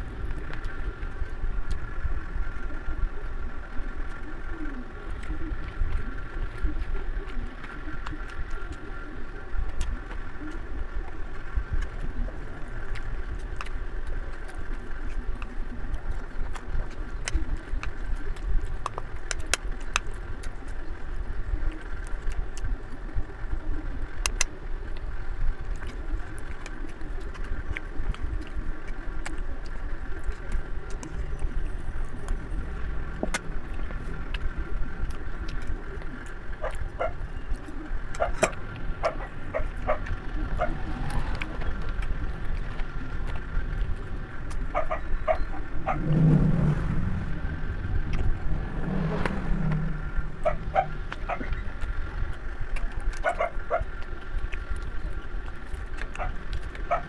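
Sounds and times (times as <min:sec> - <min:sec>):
faint hum: 0:00.0 - 0:57.0
low background rumble: 0:00.0 - 0:57.0.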